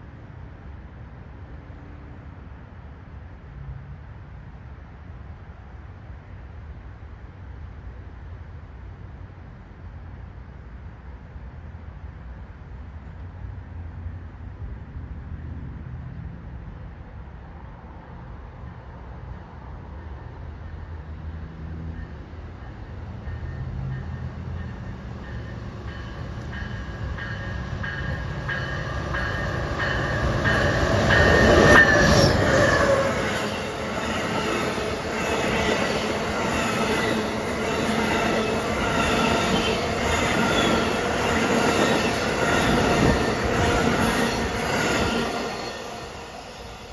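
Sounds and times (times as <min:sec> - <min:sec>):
train passing: 0:00.0 - 0:46.9.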